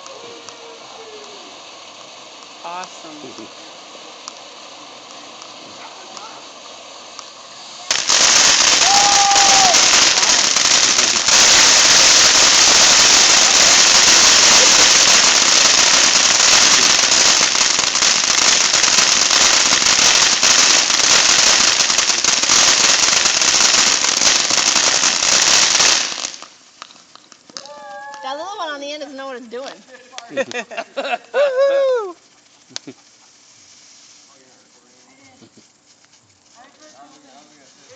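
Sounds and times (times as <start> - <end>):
fireworks crackling: 0.0 - 37.9.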